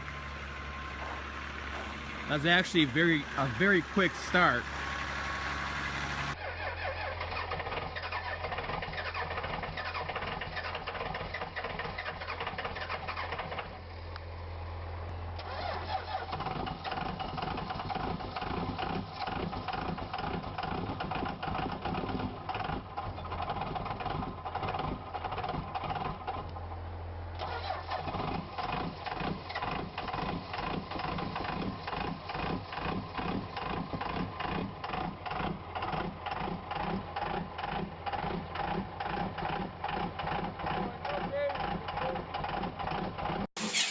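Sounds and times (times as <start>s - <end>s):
diesel truck engine clattering: 0.0s - 43.5s.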